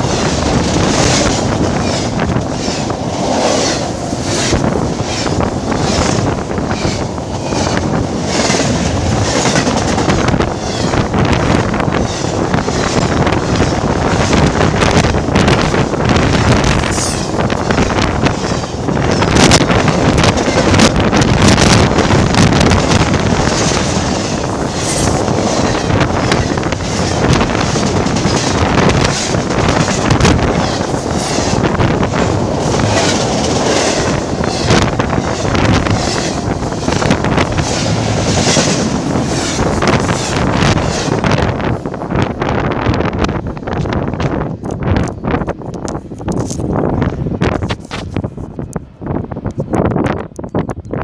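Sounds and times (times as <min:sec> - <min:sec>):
freight train passing: 0:00.0 - 0:51.0
wind buffeting microphone: 0:00.0 - 0:51.0.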